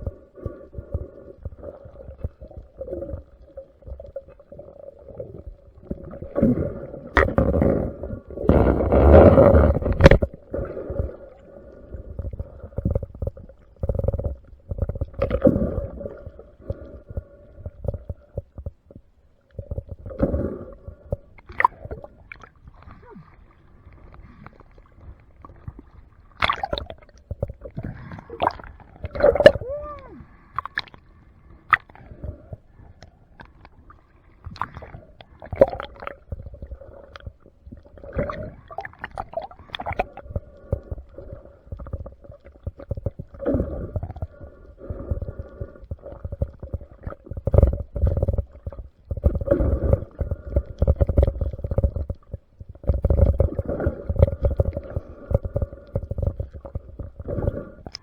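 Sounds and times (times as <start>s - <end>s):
faint steady hum: 0.0s - 58.0s
gurgling bubbles underwater: 0.0s - 58.0s.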